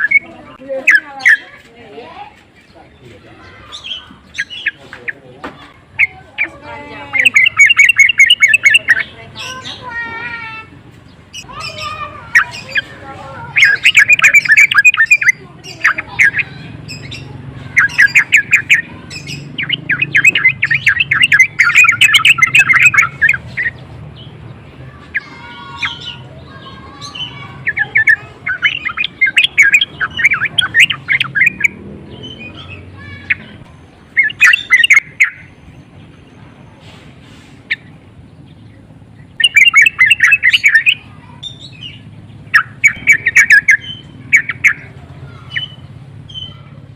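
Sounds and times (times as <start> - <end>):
bird chattering calls: 0.0 - 46.9.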